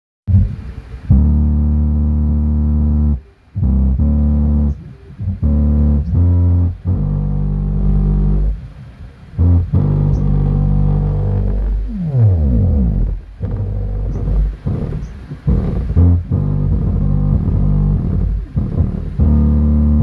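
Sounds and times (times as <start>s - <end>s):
bass-heavy music through subwoofer: 0.3s - 20.0s.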